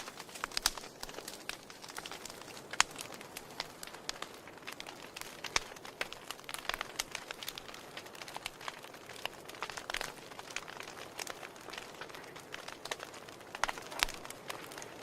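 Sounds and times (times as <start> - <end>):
soft steady hiss: 0.0 - 15.0
wood fire crackling and popping: 0.0 - 15.0.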